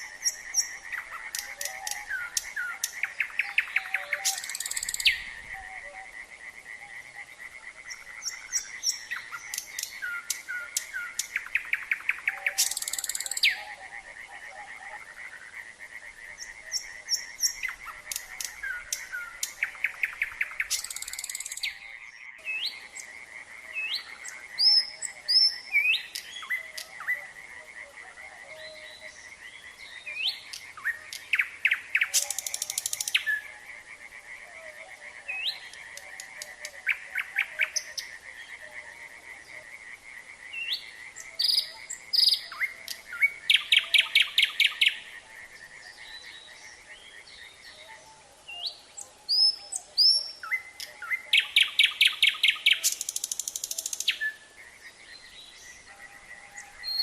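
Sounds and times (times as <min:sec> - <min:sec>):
frogs calling: 0:00.0 - 0:57.0
nightingale singing: 0:00.0 - 0:57.0.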